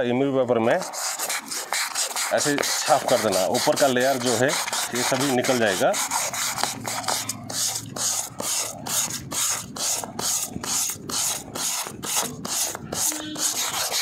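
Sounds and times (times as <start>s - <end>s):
sandpaper scrubbing plastic: 0.7s - 14.0s.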